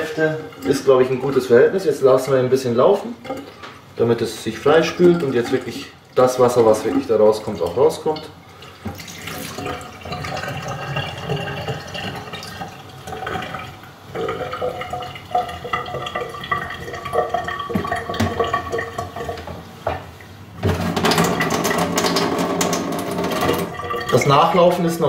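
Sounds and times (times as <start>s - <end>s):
water stream splashing in sink: 0.0s - 19.6s, 20.6s - 24.7s.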